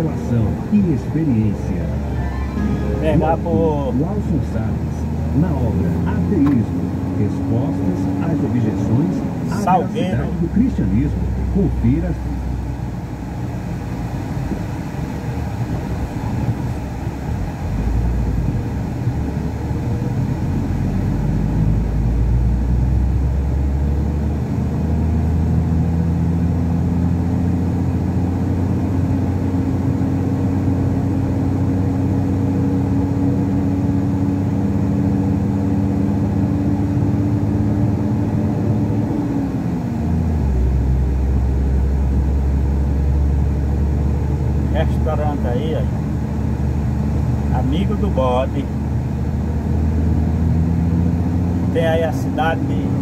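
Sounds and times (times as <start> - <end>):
road rumble: 0.0 - 53.0
truck diesel engine running: 0.0 - 53.0.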